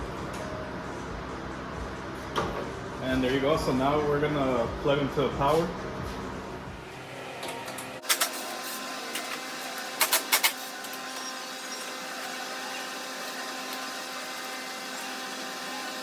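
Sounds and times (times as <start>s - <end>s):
electrical machine hum: 0.0s - 16.0s.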